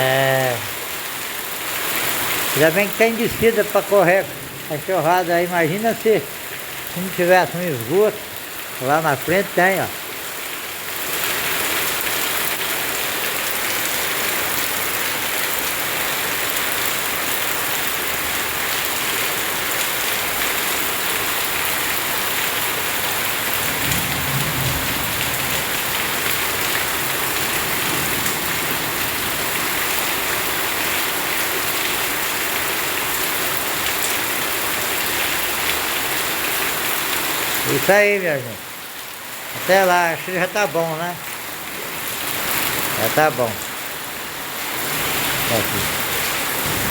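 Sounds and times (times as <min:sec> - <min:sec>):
rain drumming on surfaces: 0:00.0 - 0:46.9.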